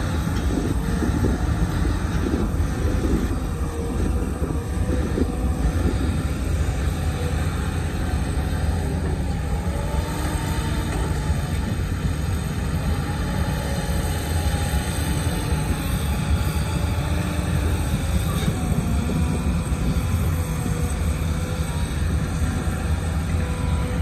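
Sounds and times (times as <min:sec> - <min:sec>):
excavator diesel engine rumbling: 0:00.0 - 0:24.0.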